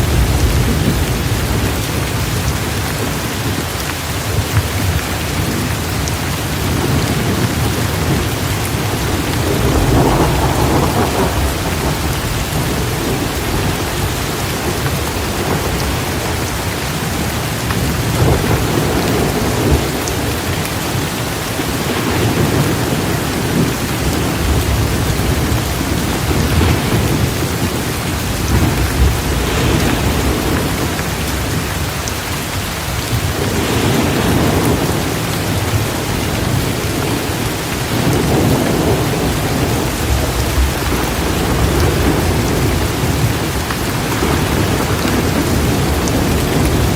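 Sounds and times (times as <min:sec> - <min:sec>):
low thunder rumbles: 0:00.0 - 0:46.9
steady rain: 0:00.0 - 0:46.9.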